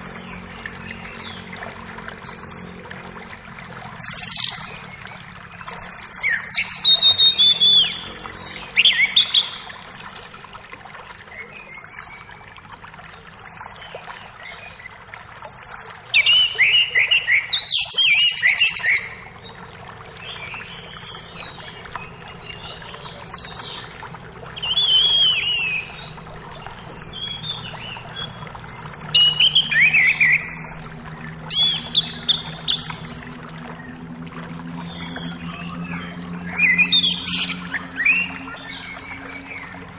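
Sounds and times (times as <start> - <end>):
birds singing falling phrases: 0.0 - 39.9
creek flowing: 0.0 - 39.9.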